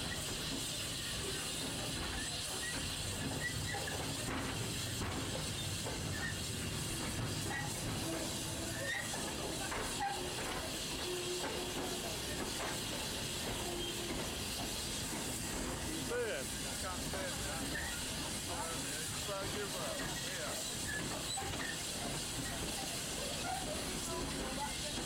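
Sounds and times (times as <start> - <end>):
steam hissing: 0.0 - 25.0
train rumbling on rails: 0.0 - 25.0.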